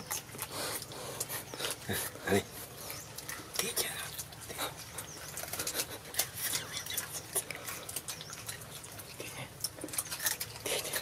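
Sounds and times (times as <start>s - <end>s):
monkeys chewing and lip-smacking: 0.0s - 11.0s.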